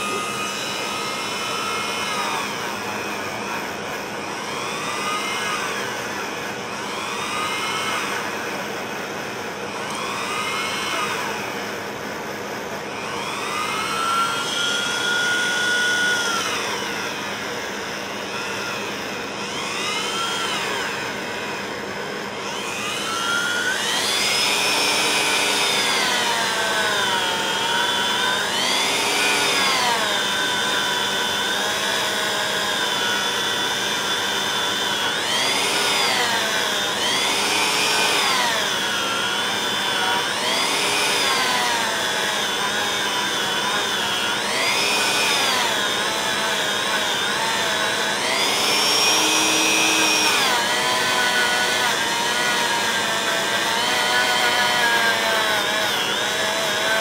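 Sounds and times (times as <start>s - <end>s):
rotary tool motor whine: 0.0s - 57.0s.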